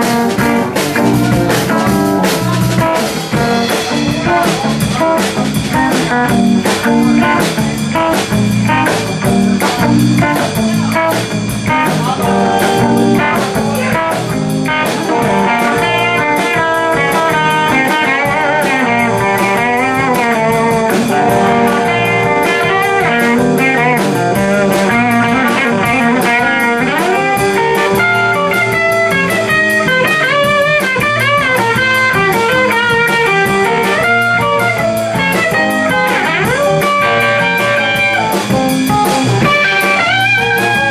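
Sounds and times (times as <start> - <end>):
blues-rock band playing: 0.0 - 40.9
lead guitar bent notes: 0.0 - 40.9.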